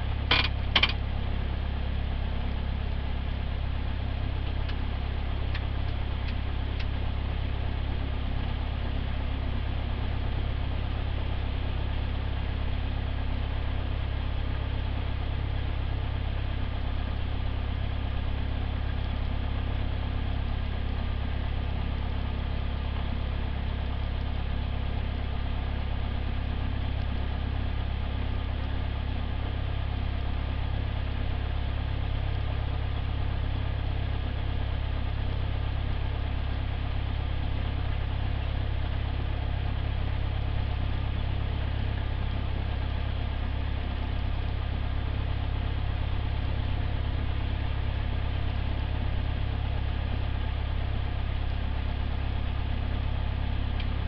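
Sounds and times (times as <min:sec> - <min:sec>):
propeller plane engine idling: 0:00.0 - 0:54.0.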